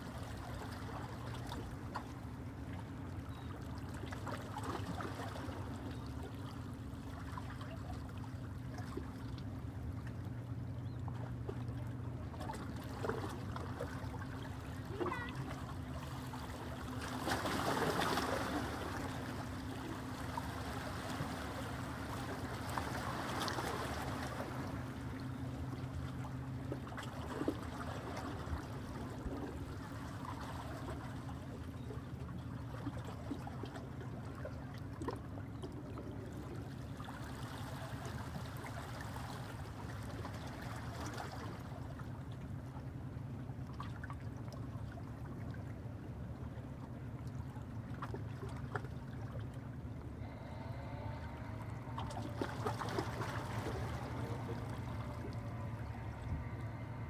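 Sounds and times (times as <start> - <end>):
low boat engine hum: 0.0 - 57.0
water lapping and splashing: 0.0 - 57.0.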